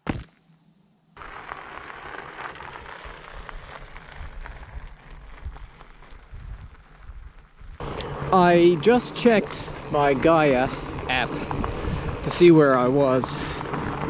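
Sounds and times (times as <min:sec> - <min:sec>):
bike tyres crunching on gravel: 0:01.2 - 0:14.0.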